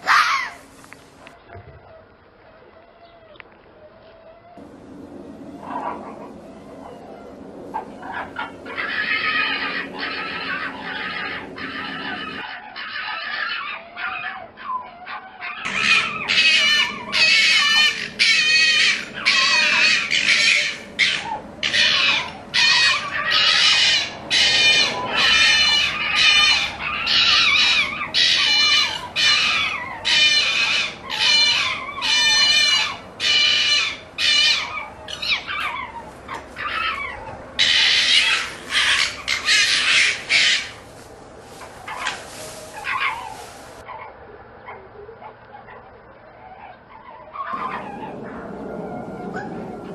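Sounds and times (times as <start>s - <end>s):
fox barking calls: 0.0s - 0.7s, 5.5s - 40.9s, 41.6s - 49.9s.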